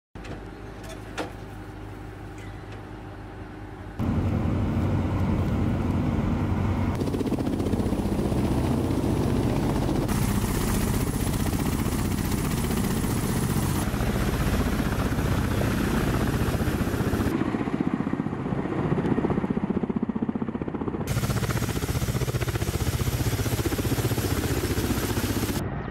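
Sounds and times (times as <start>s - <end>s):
helicopter rotors pulsing: 1.6s - 25.9s.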